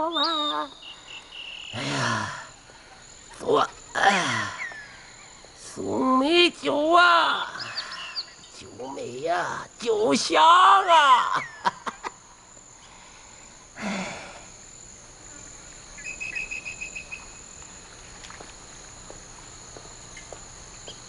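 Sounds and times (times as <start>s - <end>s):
faint high hiss: 0.0s - 21.0s
insect chirping trill: 0.0s - 21.0s.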